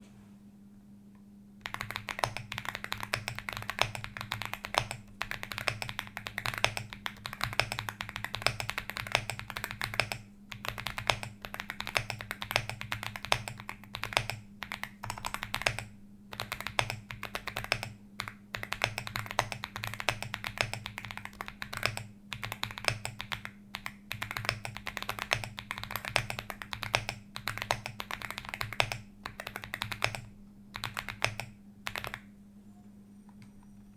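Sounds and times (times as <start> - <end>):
steady low hum: 0.0 - 33.9
fast typing on mechanical keyboard: 1.6 - 32.3.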